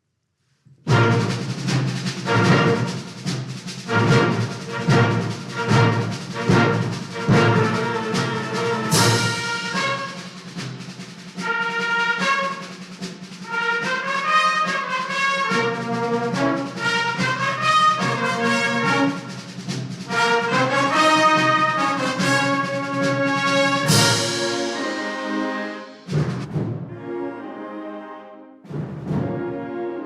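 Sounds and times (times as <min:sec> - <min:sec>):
wind band playing: 0:00.8 - 0:30.0.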